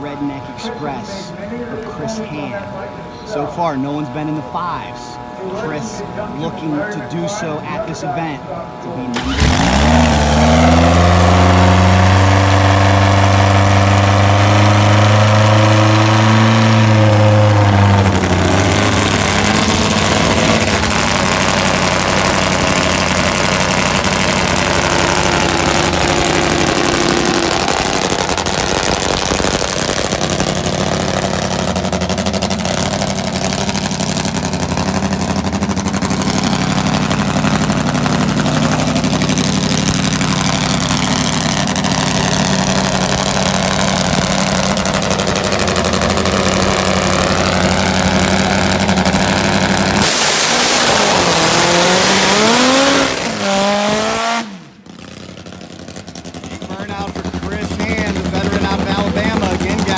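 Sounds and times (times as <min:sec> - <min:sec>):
motorcycle engine idling: 0:08.5 - 0:50.0, 0:51.0 - 0:59.9.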